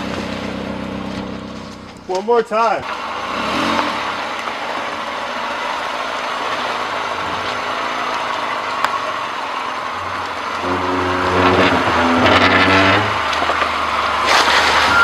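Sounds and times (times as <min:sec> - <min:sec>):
car engine running at low throttle: 0:00.0 - 0:15.0.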